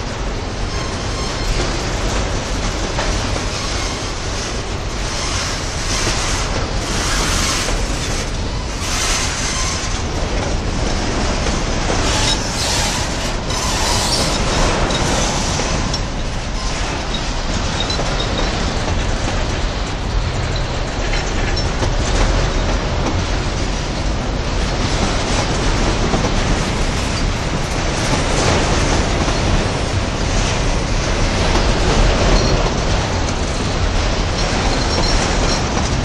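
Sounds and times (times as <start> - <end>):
steel wheels clacking on rail: 0.0 - 36.0.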